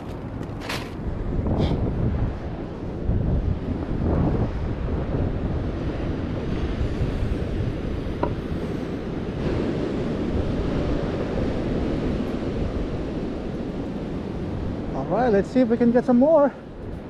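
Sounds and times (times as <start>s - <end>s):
ocean surf: 0.0s - 17.0s
wind buffeting microphone: 0.0s - 17.0s.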